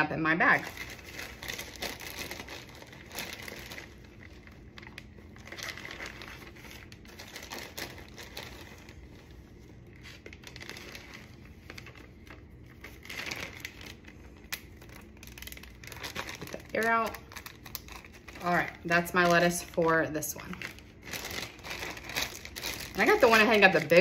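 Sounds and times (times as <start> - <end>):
plastic bag crinkling: 0.4 - 24.0.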